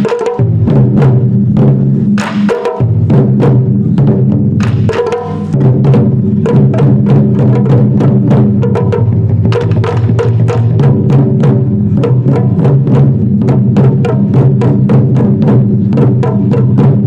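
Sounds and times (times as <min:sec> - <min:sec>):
taiko drum ensemble playing: 0:00.0 - 0:17.0.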